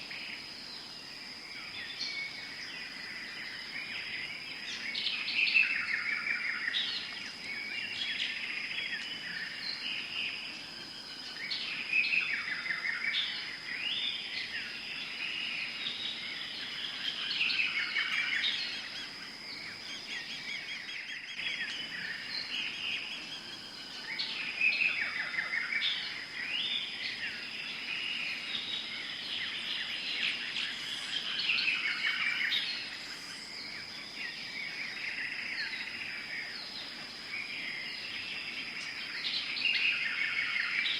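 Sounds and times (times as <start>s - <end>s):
birds chirping and calling: 1.6s - 40.9s.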